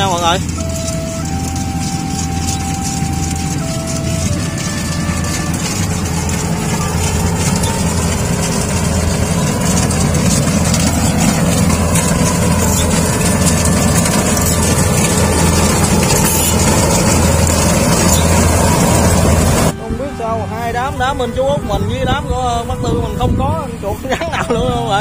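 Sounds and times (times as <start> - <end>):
combine harvester engine running: 0.0 - 25.0.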